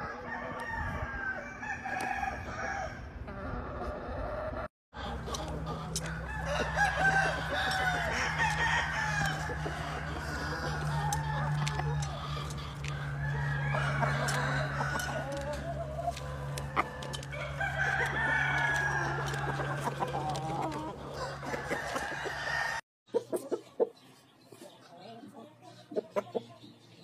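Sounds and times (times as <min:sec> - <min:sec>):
roosters crowing: 0:00.0 - 0:22.8
chickens clucking: 0:00.0 - 0:27.0.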